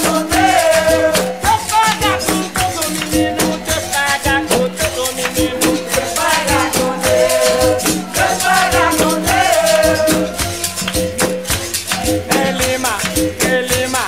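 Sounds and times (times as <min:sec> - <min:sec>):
people singing: 0:00.0 - 0:11.0, 0:11.9 - 0:14.0
people clapping: 0:00.0 - 0:14.0
shaker rattle: 0:00.0 - 0:14.0.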